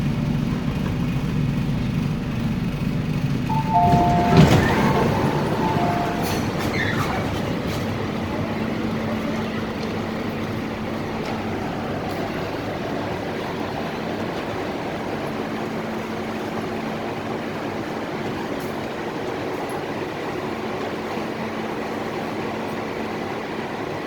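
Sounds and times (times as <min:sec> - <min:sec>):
electric train interior noise: 0:00.0 - 0:24.0.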